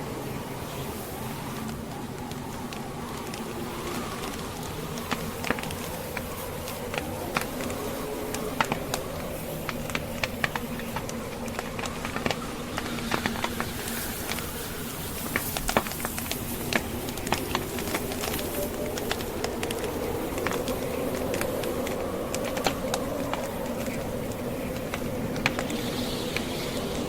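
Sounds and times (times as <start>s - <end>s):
log fire crackling: 0.0s - 27.0s
snowstorm wind drone: 0.0s - 27.0s.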